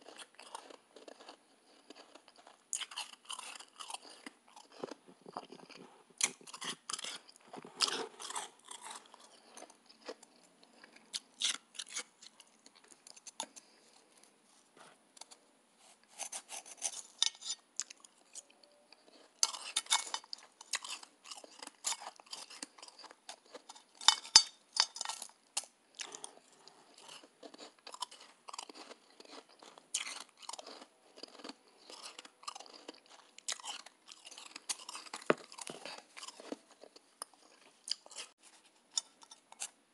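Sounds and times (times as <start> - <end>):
chewing crunchy shaved ice: 0.0 - 13.8, 16.2 - 39.7.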